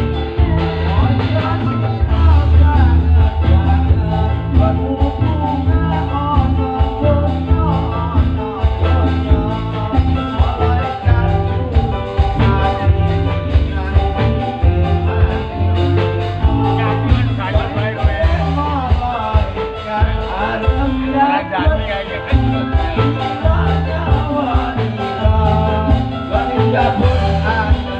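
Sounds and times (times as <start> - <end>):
loud music with heavy bass: 0.0 - 27.9
person singing: 0.0 - 27.9.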